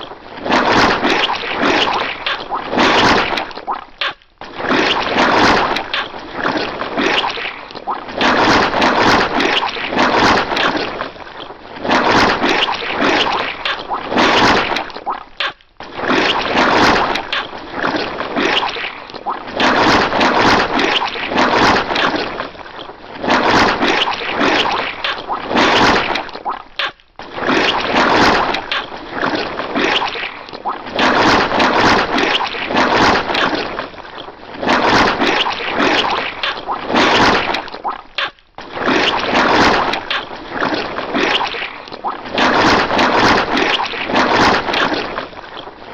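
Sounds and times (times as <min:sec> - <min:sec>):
wet squelching: 0:00.0 - 0:45.9.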